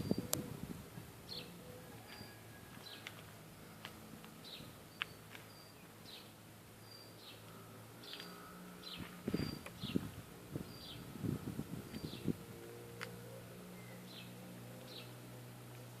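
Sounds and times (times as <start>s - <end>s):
bird chirping: 0.0s - 0.4s, 1.0s - 3.8s, 4.4s - 11.1s, 11.9s - 15.2s.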